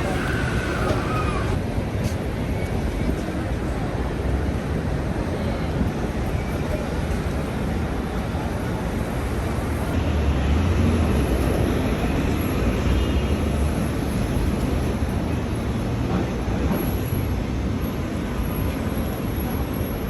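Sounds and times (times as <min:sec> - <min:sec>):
city street noise: 0:00.0 - 0:20.0.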